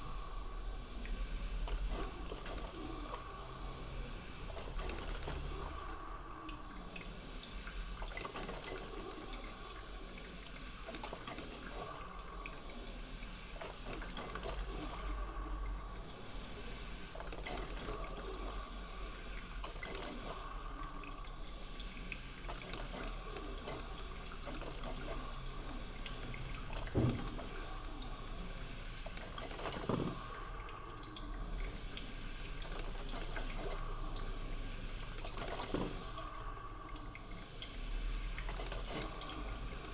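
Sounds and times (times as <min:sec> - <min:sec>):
coffee maker bubbling and gurgling: 0:00.0 - 0:39.9.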